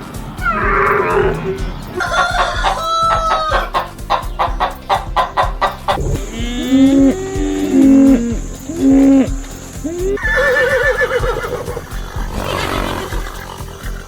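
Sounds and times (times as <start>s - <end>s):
background music: 0.0s - 14.0s
horse whinnying: 0.4s - 3.8s, 5.7s - 14.0s.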